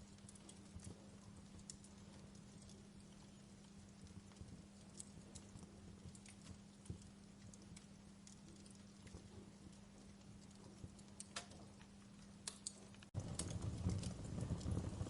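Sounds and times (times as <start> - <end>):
faint low hum: 0.0 - 15.0
wood fire crackling: 0.0 - 15.0.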